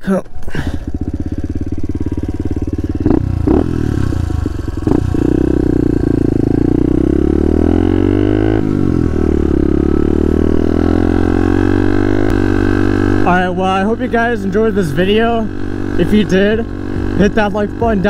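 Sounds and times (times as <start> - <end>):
small motorbike engine running: 0.5 - 18.0.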